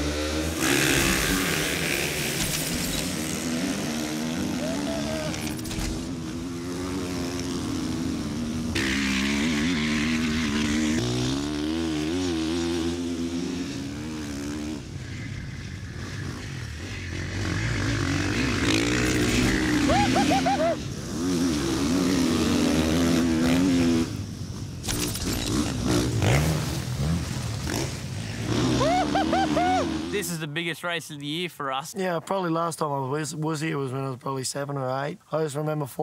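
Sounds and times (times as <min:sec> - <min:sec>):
motocross engines revving: 0:00.0 - 0:30.6.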